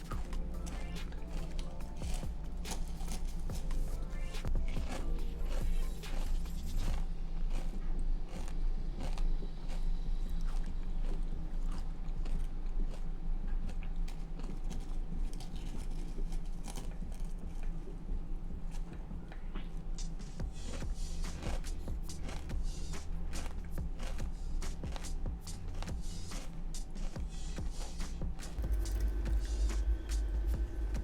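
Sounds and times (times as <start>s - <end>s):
chewing and biting: 0.0s - 31.0s
faint steady hum: 0.0s - 31.0s.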